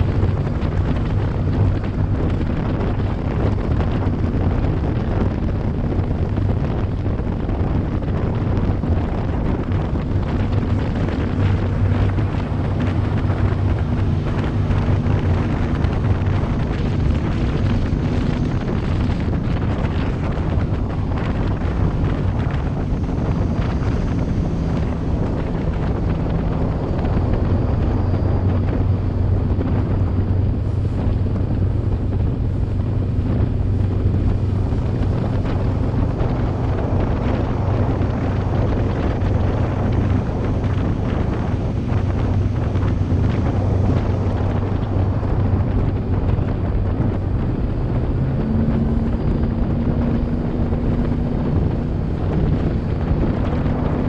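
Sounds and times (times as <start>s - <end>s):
boat engine drone: 0.0s - 54.0s
hull rushing over water: 0.0s - 54.0s
wind buffeting microphone: 0.0s - 54.0s.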